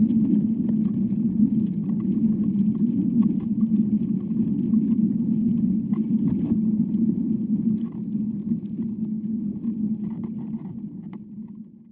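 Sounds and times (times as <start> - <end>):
low rumble inside tree trunk: 0.0 - 11.9.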